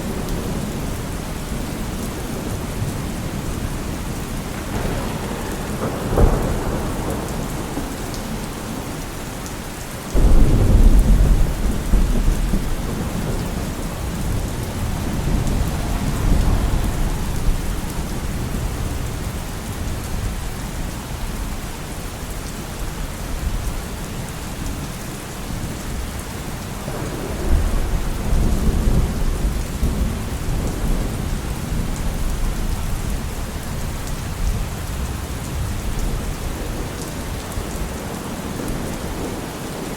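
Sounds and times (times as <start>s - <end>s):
deep thunder rumble: 0.0s - 9.5s, 10.1s - 21.9s, 25.6s - 39.9s
steady rain falling: 0.0s - 39.9s.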